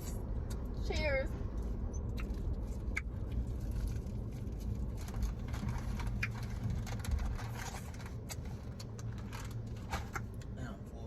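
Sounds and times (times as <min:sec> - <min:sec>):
car cabin rumble: 0:00.0 - 0:11.0
small clicks and rustles: 0:01.6 - 0:10.5.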